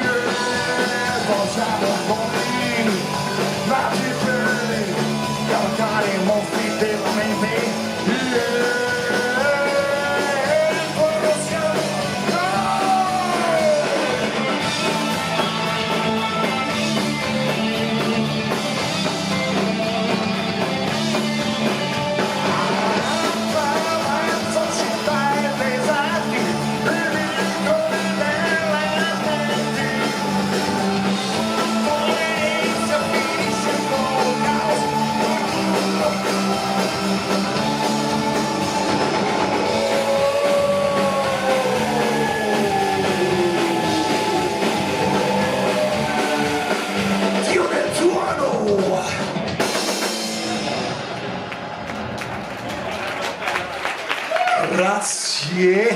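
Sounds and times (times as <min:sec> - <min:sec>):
electric guitar lead: 0:00.0 - 0:51.5
bass and drums: 0:00.0 - 0:55.9.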